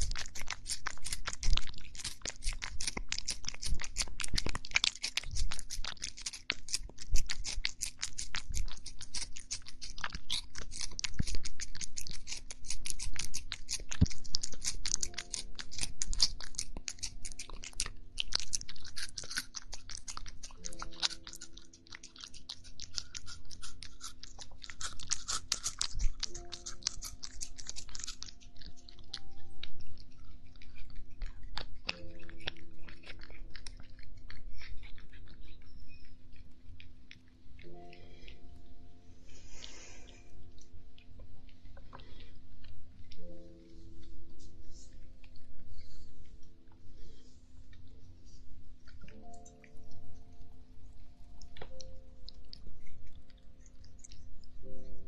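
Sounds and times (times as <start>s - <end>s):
cat chewing crunchy food: 0.0s - 38.4s, 39.1s - 55.0s
soft background music: 0.0s - 55.0s.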